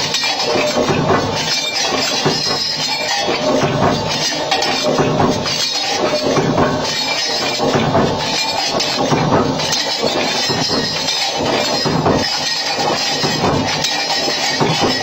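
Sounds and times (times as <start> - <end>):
machinery clattering metal parts: 0.0 - 15.0.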